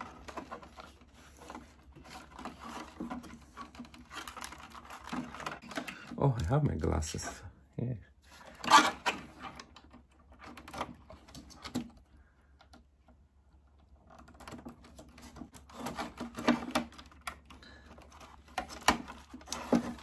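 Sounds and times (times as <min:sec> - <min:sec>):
wiring rustling: 0:00.0 - 0:07.4, 0:08.2 - 0:20.0.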